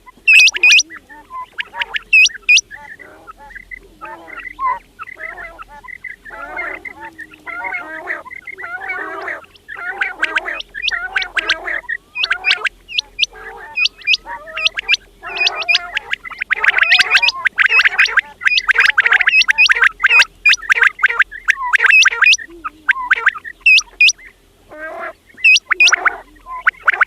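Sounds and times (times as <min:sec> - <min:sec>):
quails calling: 0:00.0 - 0:27.0.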